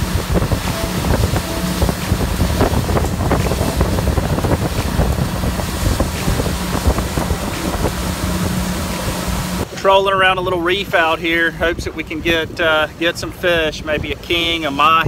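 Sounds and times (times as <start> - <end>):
motorboat engine hum: 0.0 - 12.6
wake rushing: 0.0 - 13.0
wind buffeting microphone: 0.0 - 15.0.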